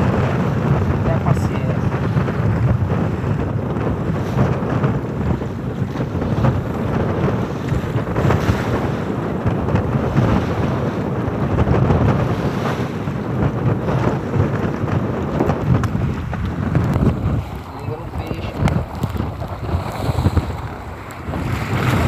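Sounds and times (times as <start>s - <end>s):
waves washing against boat: 0.0s - 22.0s
wind buffeting microphone: 0.0s - 22.0s.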